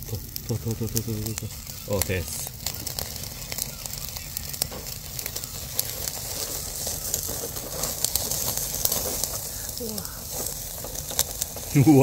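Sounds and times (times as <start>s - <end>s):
fire crackling and popping: 0.0s - 12.0s
meat sizzling on a grill: 0.0s - 12.0s.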